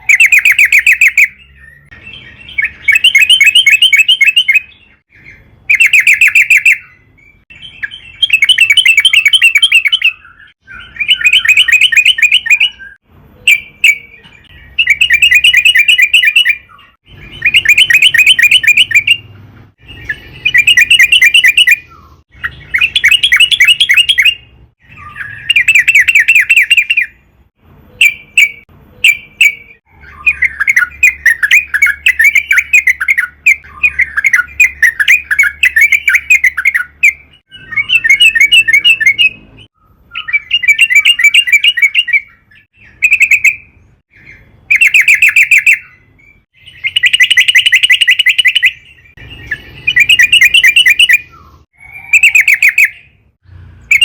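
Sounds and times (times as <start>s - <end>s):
bird singing chattering notes: 0.0s - 27.2s, 28.0s - 54.0s.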